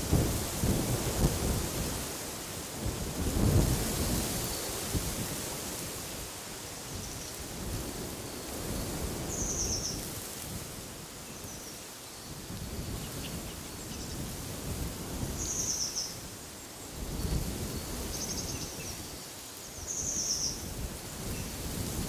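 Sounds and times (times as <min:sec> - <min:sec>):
wind gusts with low rumble: 0:00.0 - 0:22.0.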